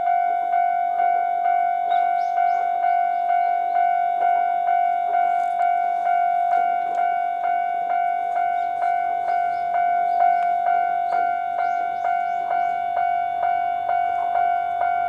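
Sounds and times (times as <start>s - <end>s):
level crossing electronic bell: 0.0s - 15.0s
steady ringing tone: 0.0s - 15.0s.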